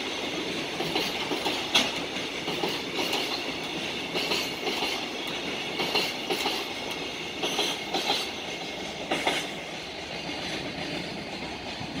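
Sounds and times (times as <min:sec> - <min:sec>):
train rolling rumble: 0:00.0 - 0:12.0
train wheels clattering over rail joints: 0:00.0 - 0:12.0.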